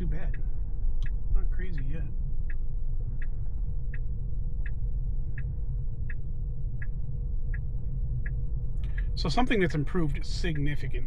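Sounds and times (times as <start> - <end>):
turn signal ticking: 0.0 - 10.9
road noise rumble: 0.0 - 11.0.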